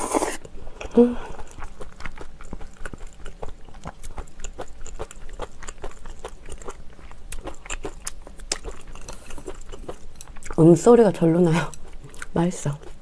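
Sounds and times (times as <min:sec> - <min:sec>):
person chewing food: 0:00.0 - 0:10.6, 0:11.7 - 0:13.0.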